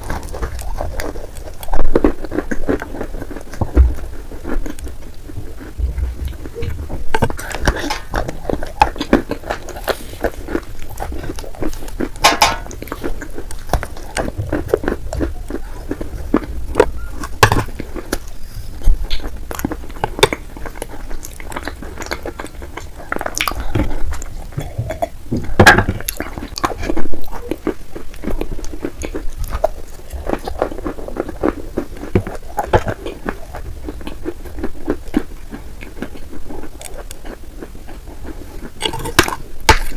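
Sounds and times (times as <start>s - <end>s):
chewing clay crunches: 0.0s - 39.9s
wet mouth sounds: 0.0s - 39.9s.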